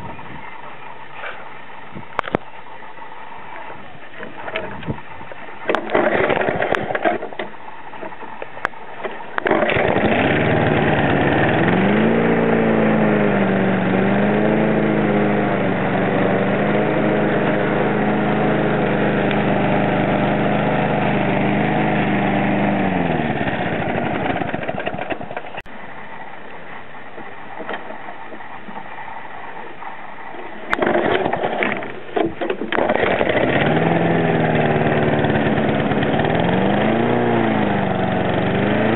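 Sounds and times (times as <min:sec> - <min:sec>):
lawnmower engine running: 0:00.0 - 0:38.9.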